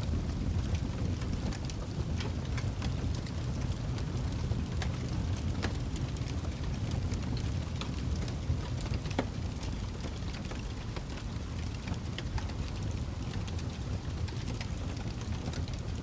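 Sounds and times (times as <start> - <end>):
low rumble of fire: 0.0 - 16.0
wood fire crackling and popping: 0.0 - 16.0.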